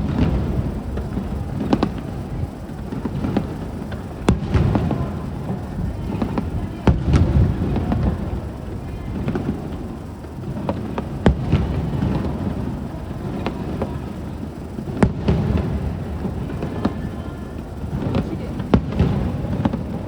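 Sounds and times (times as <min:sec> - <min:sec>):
firework bangs: 0:00.0 - 0:20.0.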